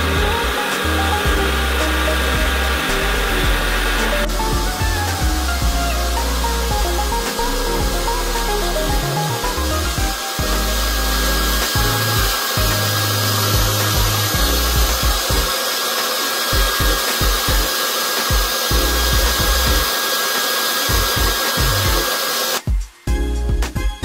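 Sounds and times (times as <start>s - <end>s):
hair dryer blowing with whine: 0.0s - 22.7s
background music with beat: 0.0s - 24.0s.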